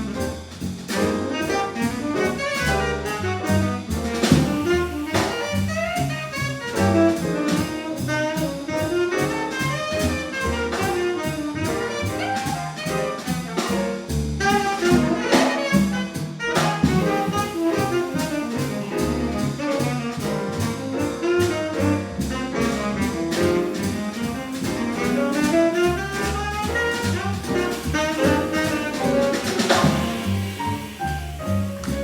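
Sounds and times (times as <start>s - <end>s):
jazz band playing: 0.0s - 32.0s
steady drum beat: 0.0s - 32.0s
stepping bass notes: 0.0s - 32.0s.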